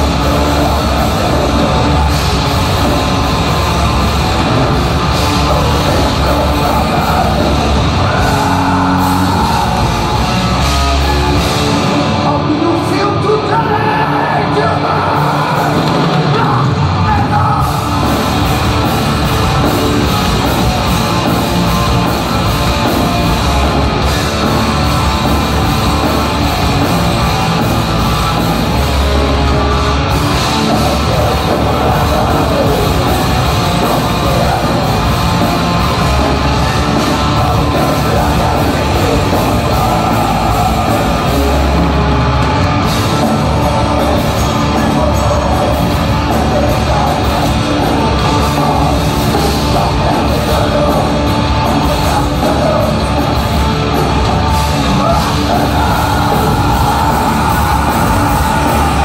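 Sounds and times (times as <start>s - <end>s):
distorted electric guitars: 0.0s - 59.0s
drums: 0.0s - 59.0s
harsh shouted vocals: 0.0s - 59.0s.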